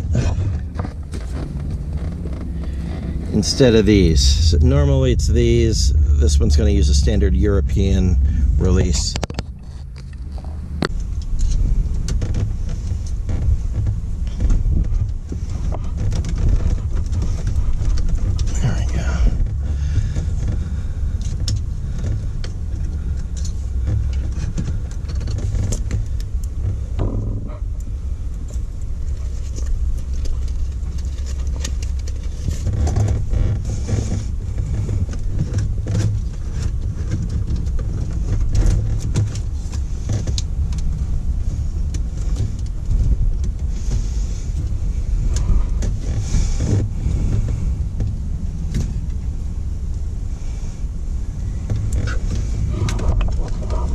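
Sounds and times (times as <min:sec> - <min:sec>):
steady low rumble: 0:00.0 - 0:53.9.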